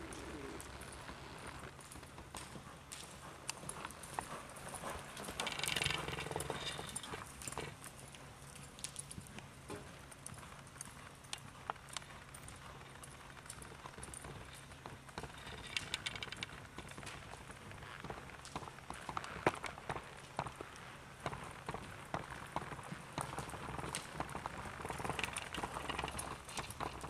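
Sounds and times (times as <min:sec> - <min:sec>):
hoofbeats on soft dirt: 0:00.0 - 0:27.0.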